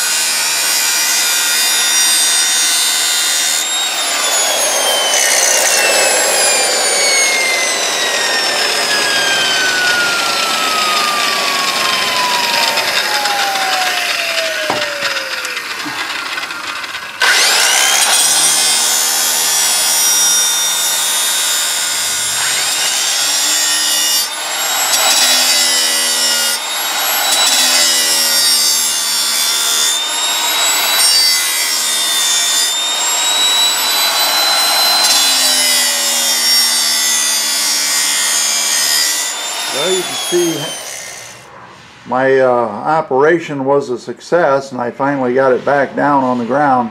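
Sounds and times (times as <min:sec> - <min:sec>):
grinder grinding steel blade: 0:00.0 - 0:41.5
angle grinder whine: 0:00.0 - 0:42.1.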